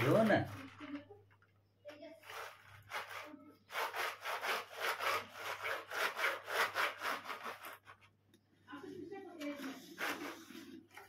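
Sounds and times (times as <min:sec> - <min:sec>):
scraping strokes on hard surface: 0:02.0 - 0:11.0.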